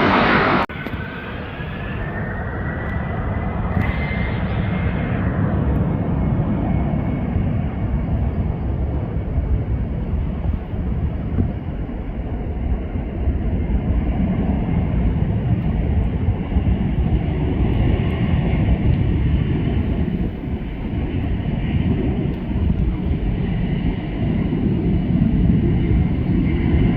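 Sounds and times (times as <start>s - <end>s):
jet engines rumbling: 0.0s - 26.9s.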